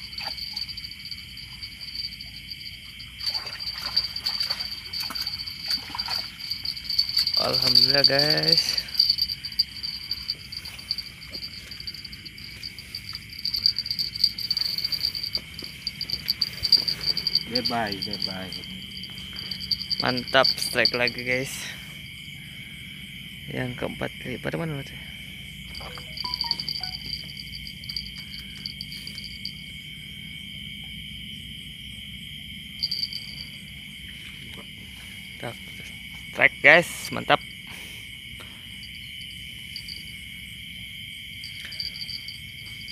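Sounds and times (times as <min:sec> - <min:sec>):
crickets chirping: 0:00.0 - 0:42.9
insect drone: 0:00.0 - 0:42.9.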